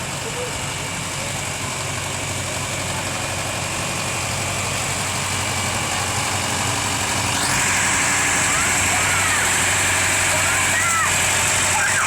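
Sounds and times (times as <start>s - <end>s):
tractor engine running at low revs: 0.0s - 12.0s.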